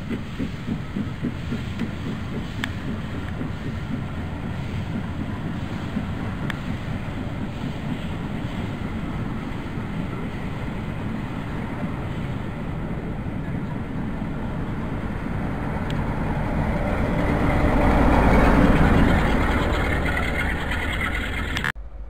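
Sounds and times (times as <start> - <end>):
diesel locomotive engine: 0.0 - 22.0
train wheels rumbling on rails: 0.0 - 22.0.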